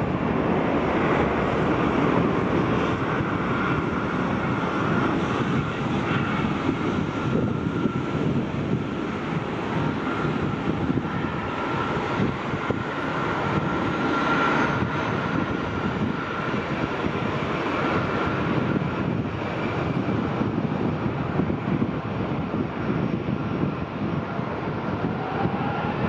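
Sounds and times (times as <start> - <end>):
jet engines with fan whine: 0.0 - 26.0.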